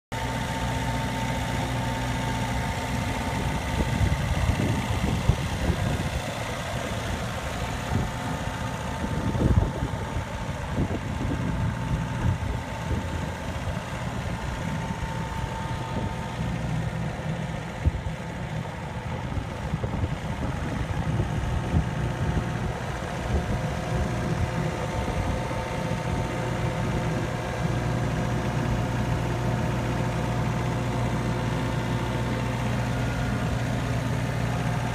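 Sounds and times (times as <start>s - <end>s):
mower engine idling: 0.1s - 34.9s.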